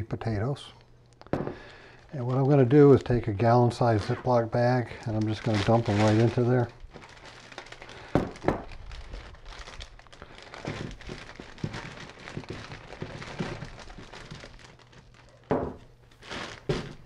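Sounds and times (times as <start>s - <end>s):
plastic bag crinkling: 0.7s - 17.0s
potatoes knocking and tumbling: 1.2s - 17.0s.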